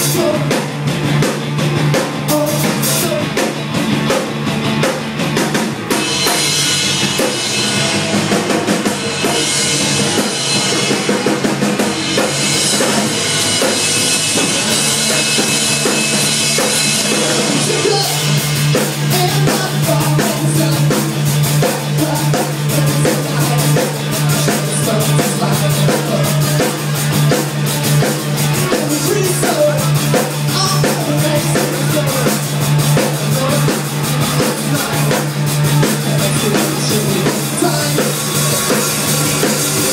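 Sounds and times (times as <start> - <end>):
drum kit hits: 0.0 - 39.9
rock band playing: 0.0 - 39.9.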